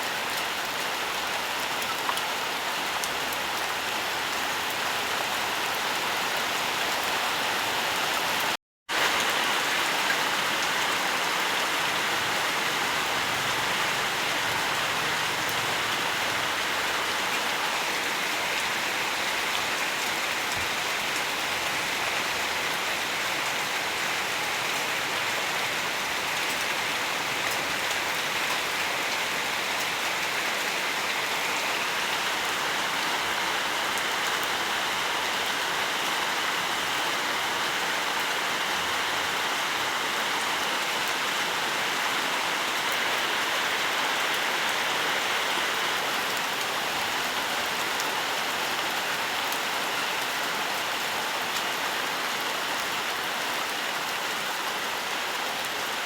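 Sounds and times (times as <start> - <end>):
rain on leaves and ground: 0.0 - 56.0.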